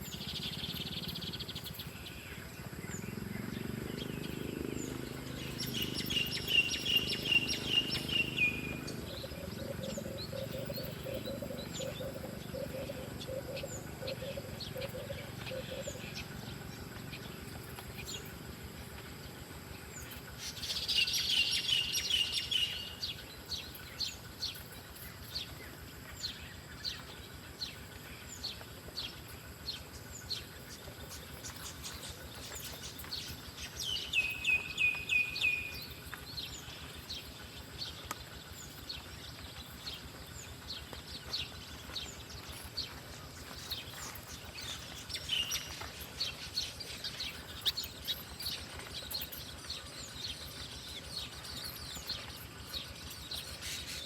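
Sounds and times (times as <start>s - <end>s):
songbird singing trill: 0.0s - 54.0s.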